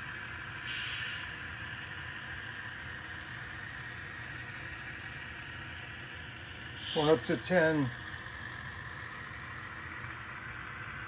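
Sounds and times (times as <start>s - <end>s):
model train rolling on track: 0.0s - 11.0s.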